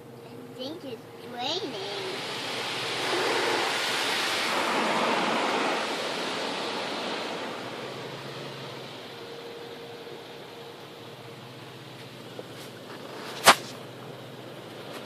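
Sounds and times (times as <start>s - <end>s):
water spray pelting car: 0.0s - 15.0s.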